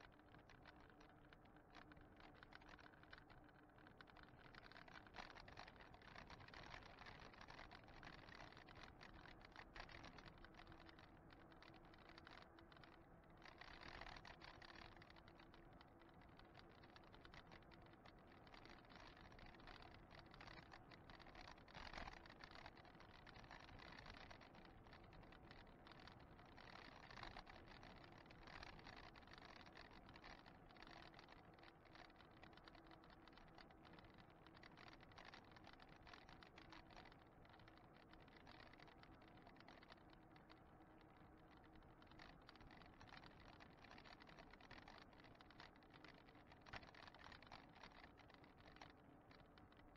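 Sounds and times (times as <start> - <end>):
e-bike rattling and clicking: 0.0 - 49.9
faint steady hum: 0.0 - 49.9.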